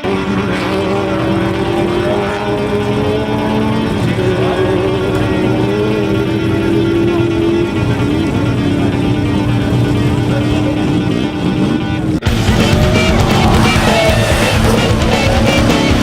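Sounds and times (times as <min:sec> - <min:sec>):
engine running at high revs: 0:00.0 - 0:16.0.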